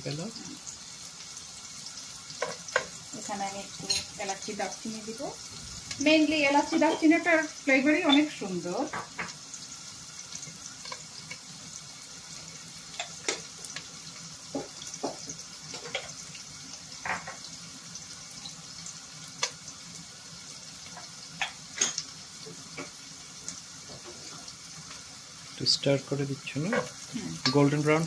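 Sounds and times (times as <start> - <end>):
oil crackling and popping: 0.0 - 28.0
onions sizzling in oil: 0.0 - 28.0.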